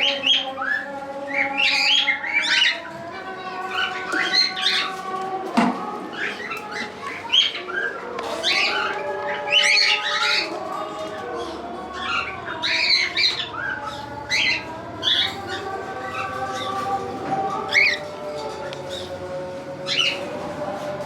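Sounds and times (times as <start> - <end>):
cockatiels chirping and squawking: 0.0 - 5.2, 6.0 - 19.2, 19.8 - 20.3.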